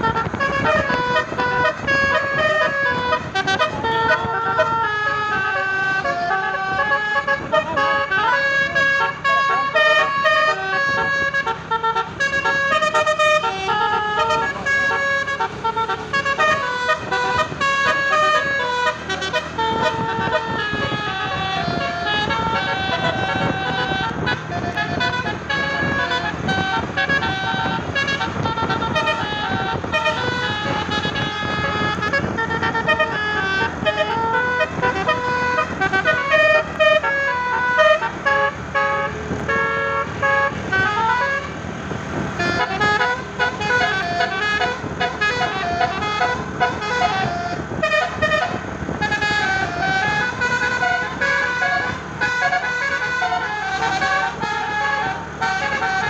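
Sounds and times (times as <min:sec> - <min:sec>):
engine and road noise: 0:00.0 - 0:56.0
musical bus air horn melody: 0:00.0 - 0:56.0.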